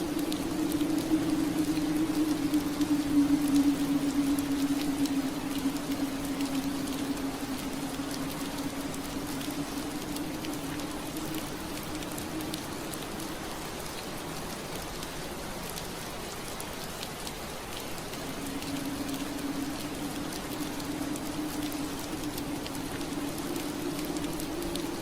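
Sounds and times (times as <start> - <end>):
rain on a window pane: 0.0 - 25.0.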